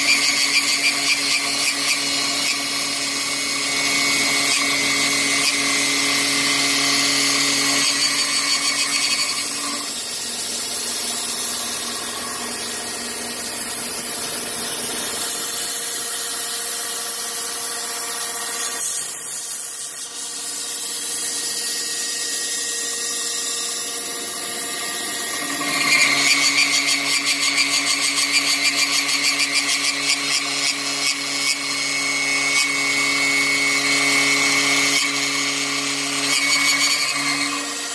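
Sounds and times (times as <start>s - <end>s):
power tool milling material: 0.0s - 37.9s.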